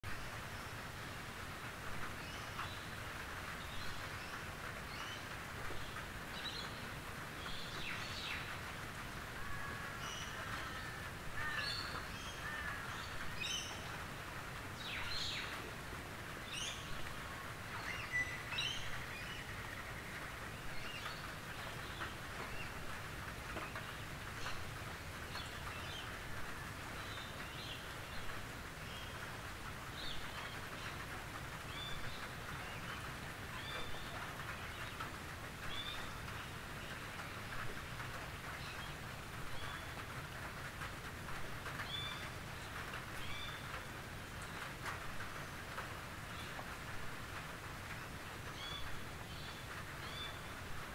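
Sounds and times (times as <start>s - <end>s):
rain on a tin roof: 0.0s - 50.9s.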